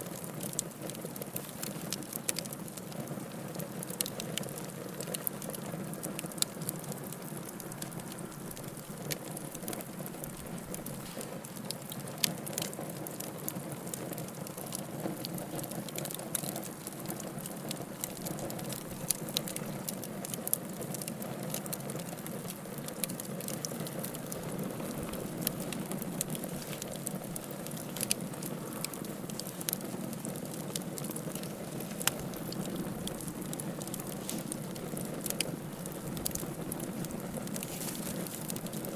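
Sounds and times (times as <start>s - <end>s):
fire crackling and popping: 0.0s - 38.9s
wood fire burning: 0.0s - 38.9s.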